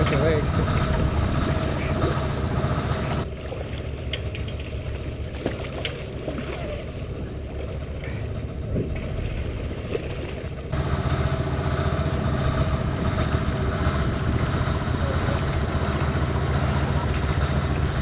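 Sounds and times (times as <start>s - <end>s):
boat engine rumbling: 0.0s - 18.0s
water splashing: 0.0s - 18.0s.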